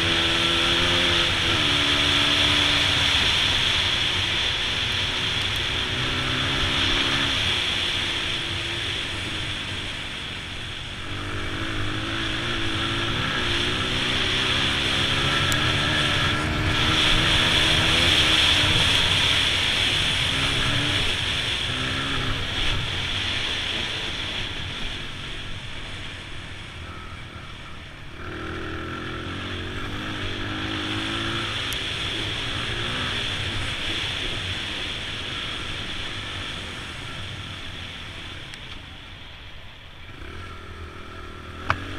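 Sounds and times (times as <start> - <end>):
motorcycle engine revving: 0.0 - 38.8, 39.9 - 41.9.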